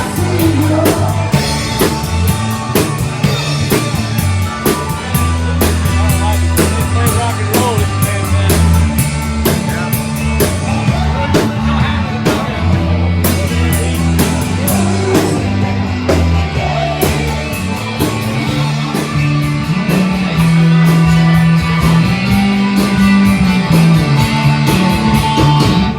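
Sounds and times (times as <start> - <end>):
bass guitar: 0.0 - 25.9
drum kit beat: 0.0 - 25.9
live rock band playing: 0.0 - 25.9.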